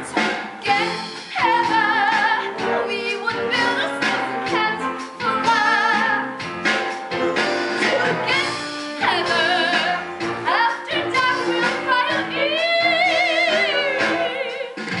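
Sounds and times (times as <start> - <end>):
musical accompaniment: 0.0 - 15.0.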